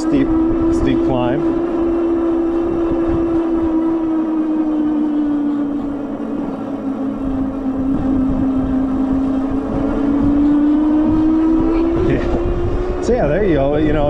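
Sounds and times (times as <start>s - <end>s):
electric bike motor whining: 0.0s - 14.0s
low rumble: 0.0s - 14.0s.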